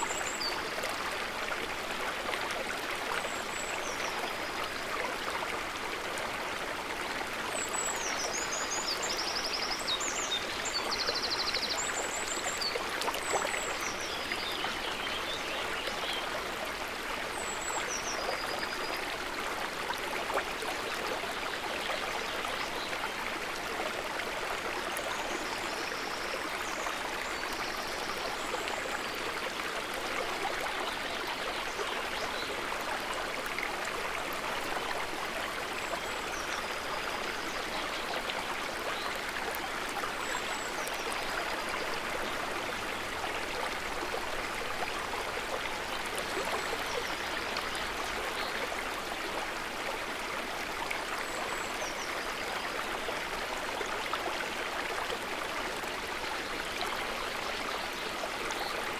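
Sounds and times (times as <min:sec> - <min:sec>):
river water running: 0:00.0 - 0:58.9.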